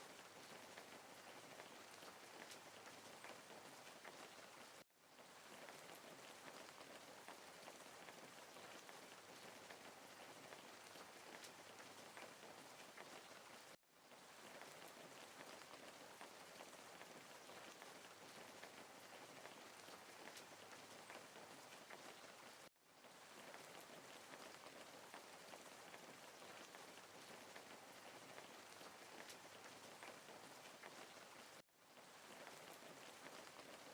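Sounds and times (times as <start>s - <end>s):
faint steady rain: 0.0s - 33.9s.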